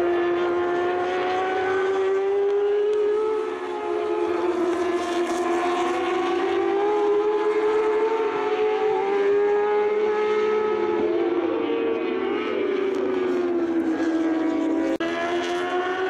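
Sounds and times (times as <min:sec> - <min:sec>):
racing motorcycles passing: 0:00.0 - 0:16.0.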